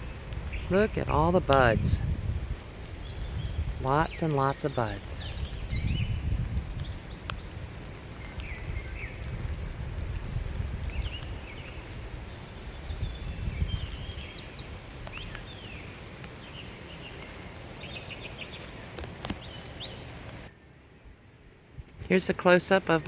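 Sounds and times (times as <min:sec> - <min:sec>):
small birds chirping: 0:00.0 - 0:01.9, 0:02.9 - 0:20.5.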